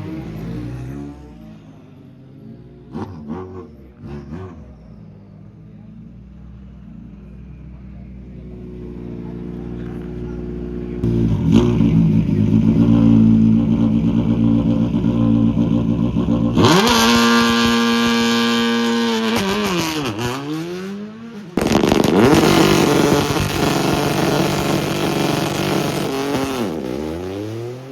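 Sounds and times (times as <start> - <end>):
car engine running low: 0.0 - 20.3, 21.3 - 27.9
rally cars passing at high revs: 0.0 - 27.9.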